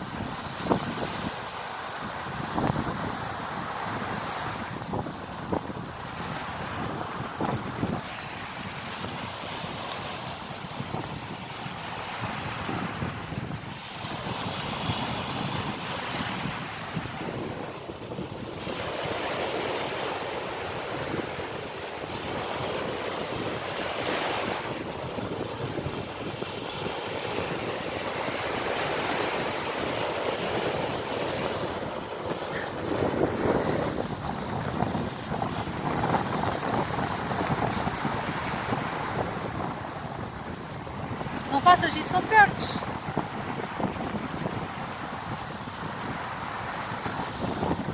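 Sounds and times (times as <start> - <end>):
surf breaking on beach: 0.0 - 47.9
wind on microphone: 0.0 - 47.9.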